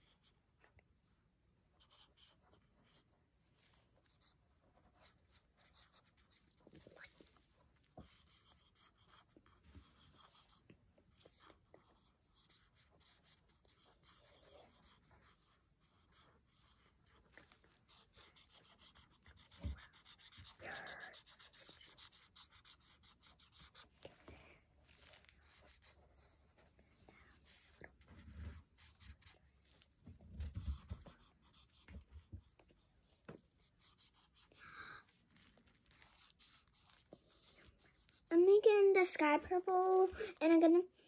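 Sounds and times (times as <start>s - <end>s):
marker scratching on paper: 1.8s - 26.6s, 27.2s - 32.7s, 33.4s - 39.4s.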